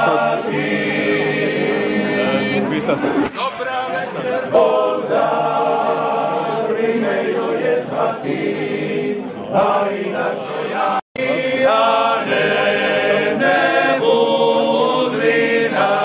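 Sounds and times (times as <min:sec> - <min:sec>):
men's choir singing a cappella: 0:00.0 - 0:16.0.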